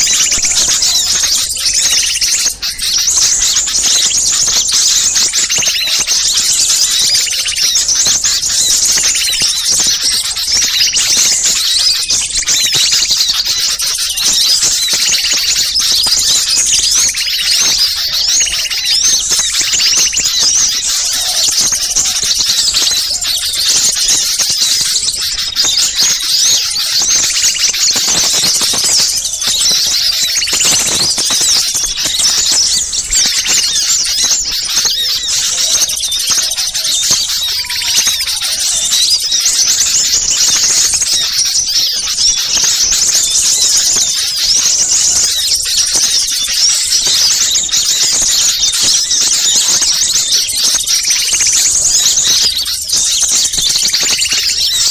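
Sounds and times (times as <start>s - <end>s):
small songbirds chirping: 0.0s - 54.9s.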